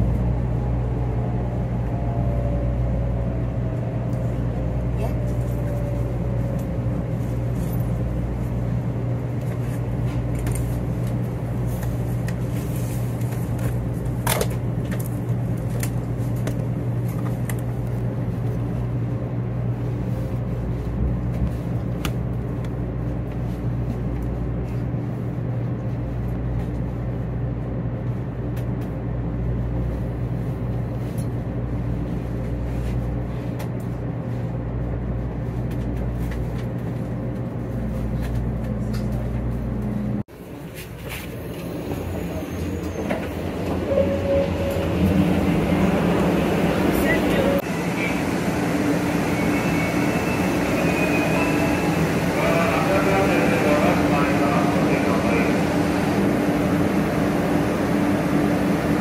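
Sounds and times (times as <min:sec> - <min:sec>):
train cabin hum and rumble: 0:00.0 - 0:59.0.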